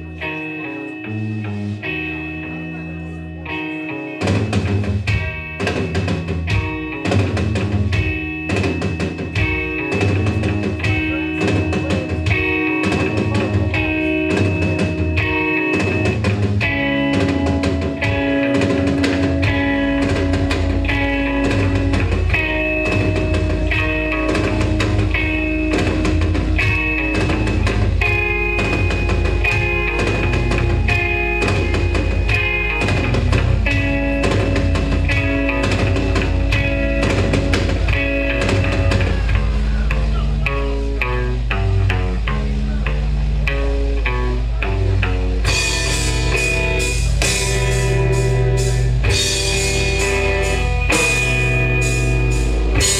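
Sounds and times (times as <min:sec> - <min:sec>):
electric guitar riff: 0:00.0 - 0:52.9
heavy bass: 0:00.0 - 0:52.9
drum kit beat: 0:04.2 - 0:42.6, 0:43.3 - 0:52.9.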